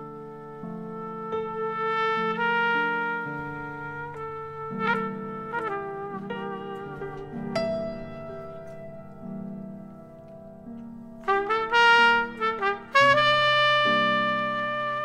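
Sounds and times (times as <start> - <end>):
jazz trumpet: 0.0 - 15.0
sustained piano chords: 0.0 - 15.0.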